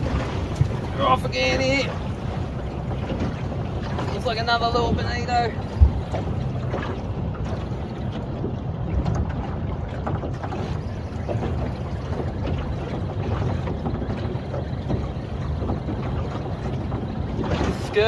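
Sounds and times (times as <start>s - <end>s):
boat motor running: 0.0s - 18.0s
water splashing against hull: 0.0s - 18.0s
wind on microphone: 0.0s - 18.0s.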